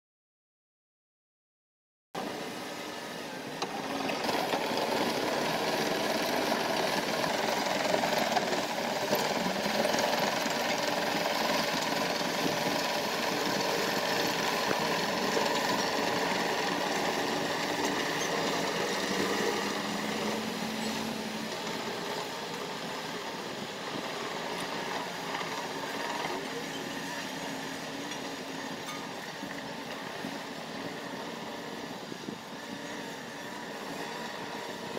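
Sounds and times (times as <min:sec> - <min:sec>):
dump truck engine: 0:02.2 - 0:34.9
excavator diesel engines: 0:02.2 - 0:34.9.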